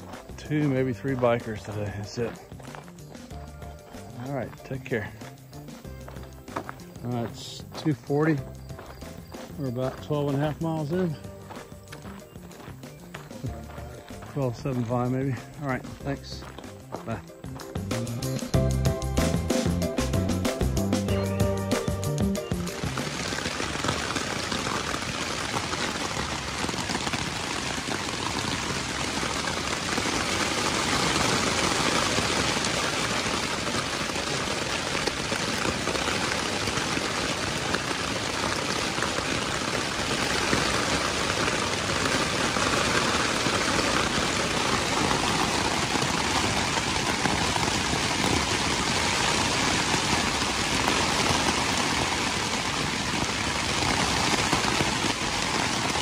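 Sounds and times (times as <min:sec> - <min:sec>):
rain falling on a tent: 0:00.0 - 0:56.0.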